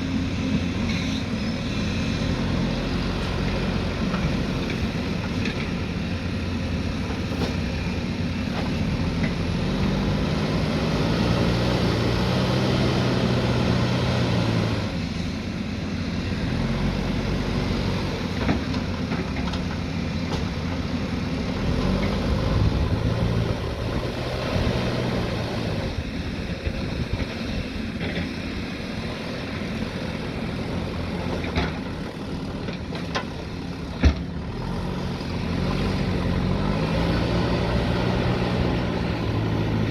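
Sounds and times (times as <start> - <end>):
heavy machine diesel engine working: 0.0 - 39.9.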